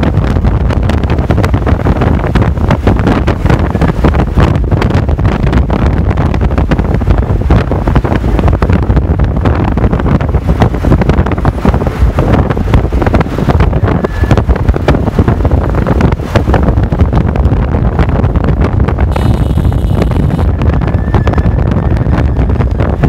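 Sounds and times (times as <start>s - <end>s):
vehicle rumble on road: 0.0s - 23.0s
wind buffeting microphone: 0.0s - 23.0s.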